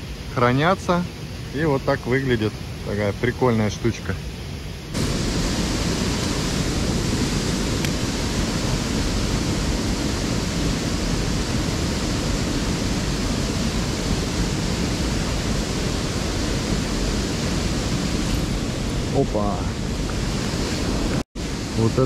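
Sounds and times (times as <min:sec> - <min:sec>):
river water rushing: 0:03.8 - 0:22.0.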